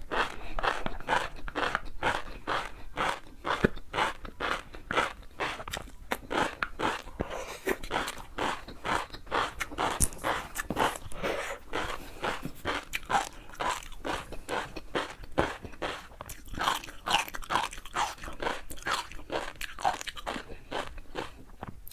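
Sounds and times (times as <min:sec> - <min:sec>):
chewing crunchy food: 0:00.0 - 0:21.9.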